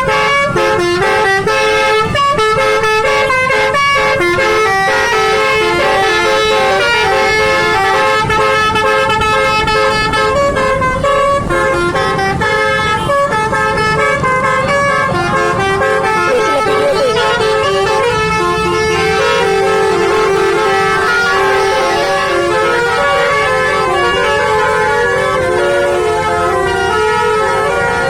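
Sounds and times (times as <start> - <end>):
multi-tone air horn playing tune: 0.0 - 28.0.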